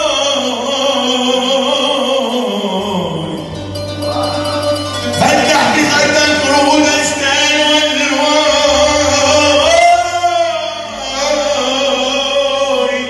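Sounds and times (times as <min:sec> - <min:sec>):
electronic keyboard accompaniment: 0:00.0 - 0:13.0
man singing into microphone: 0:00.0 - 0:13.0.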